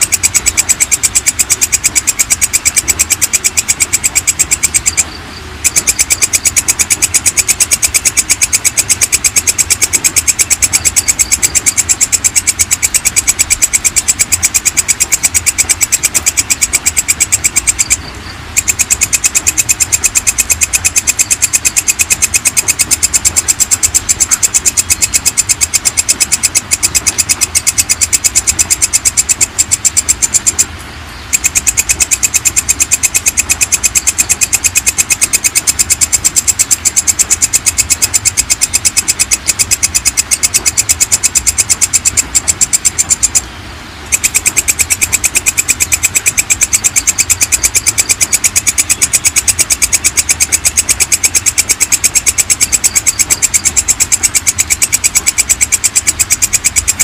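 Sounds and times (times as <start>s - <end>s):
insect clicking chirps: 0.0s - 30.7s, 31.3s - 43.5s, 44.1s - 57.0s.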